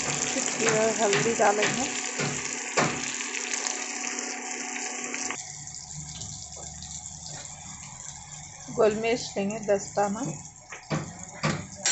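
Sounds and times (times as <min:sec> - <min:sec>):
food sizzling in a pan: 0:00.0 - 0:11.9.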